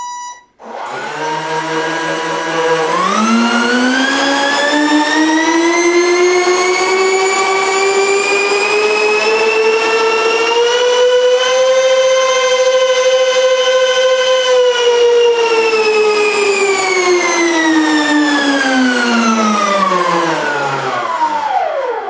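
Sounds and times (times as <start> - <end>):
electric ducted fans whining: 0.4 - 22.0.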